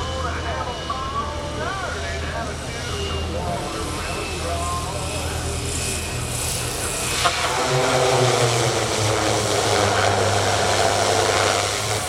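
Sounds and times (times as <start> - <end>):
propeller hum: 0.0 - 12.0
turbine rushing: 0.0 - 12.0.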